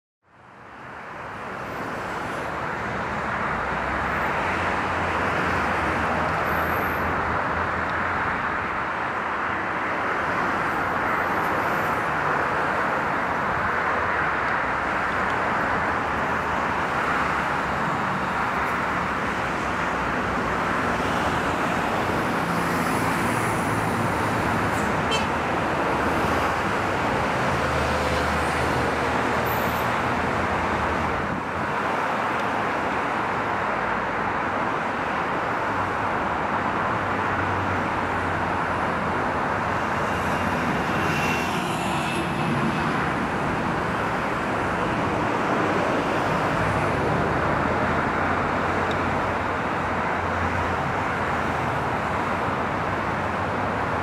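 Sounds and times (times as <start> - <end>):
road traffic roar: 0.2 - 54.0
vehicles passing rumble: 1.2 - 54.0.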